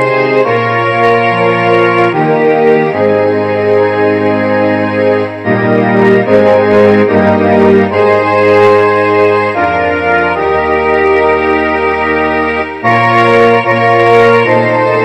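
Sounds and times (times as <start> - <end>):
organ and strings playing hymn: 0.0 - 15.0.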